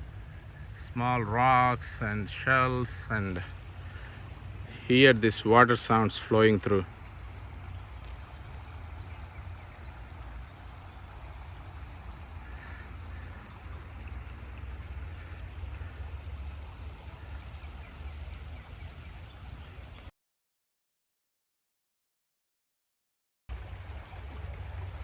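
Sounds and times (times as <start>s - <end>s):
stream flowing over rocks: 0.0s - 20.1s, 23.5s - 25.0s.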